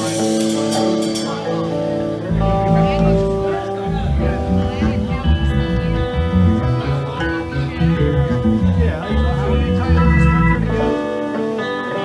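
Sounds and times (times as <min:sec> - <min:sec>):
bass: 0:00.0 - 0:11.7
guitar: 0:00.0 - 0:12.0
keyboard: 0:00.0 - 0:12.0.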